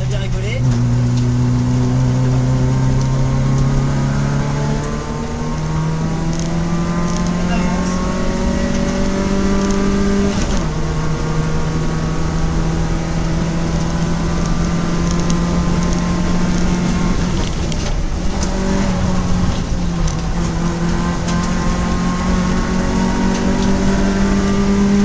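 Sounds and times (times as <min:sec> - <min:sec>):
loud road noise: 0:00.0 - 0:25.0
race car engine running hard: 0:00.0 - 0:25.0.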